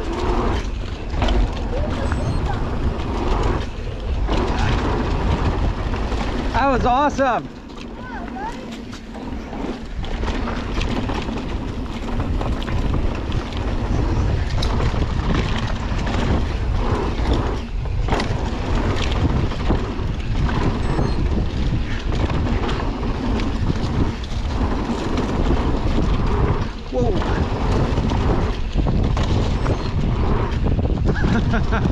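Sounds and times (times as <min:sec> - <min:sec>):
bike clicks and rattles: 0:00.0 - 0:31.9
tyres rolling on dirt: 0:00.0 - 0:31.9
wind rushing over microphone: 0:00.0 - 0:31.9.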